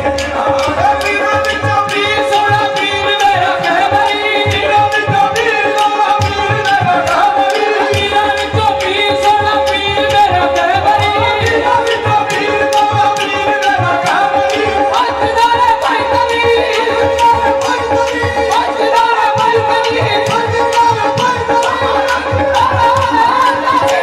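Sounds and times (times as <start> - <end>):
man singing: 0.0 - 24.0
rhythmic hand-clapping: 0.0 - 24.0
tabla: 0.0 - 24.0.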